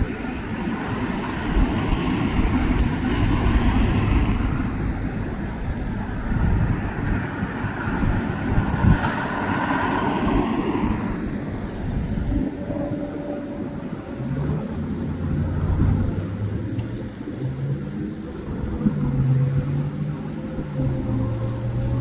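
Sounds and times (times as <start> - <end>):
jet taking off roar: 0.0 - 22.0
road traffic: 0.0 - 22.0.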